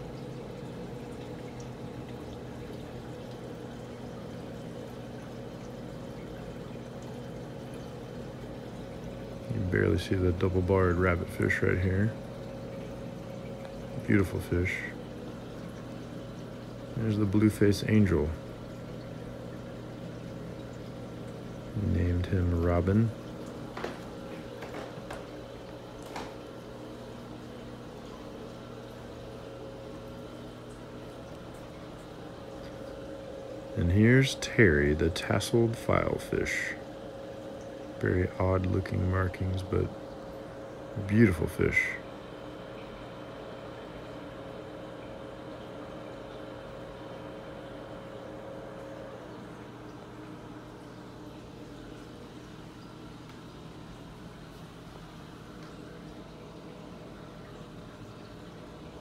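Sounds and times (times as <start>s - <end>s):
aquarium water circulating: 0.0s - 59.0s
low pump hum: 0.0s - 59.0s.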